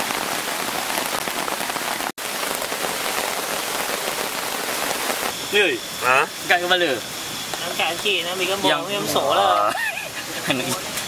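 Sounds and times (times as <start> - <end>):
rain falling on a tarp: 0.0 - 11.0.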